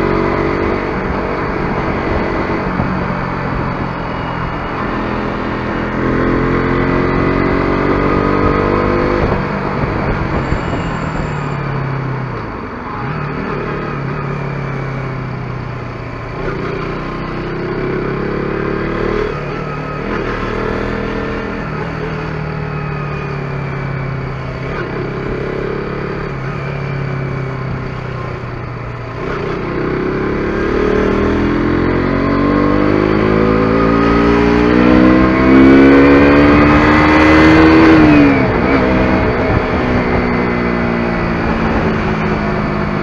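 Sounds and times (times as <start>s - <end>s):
motorcycle engine revving: 0.0s - 12.1s, 12.9s - 43.0s.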